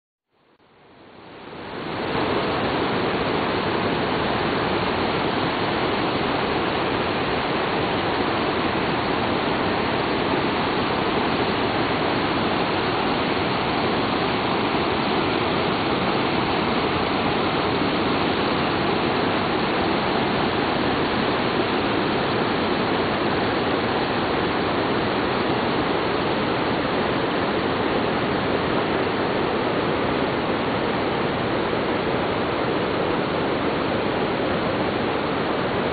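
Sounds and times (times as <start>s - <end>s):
river rushing over rapids: 0.6s - 35.9s.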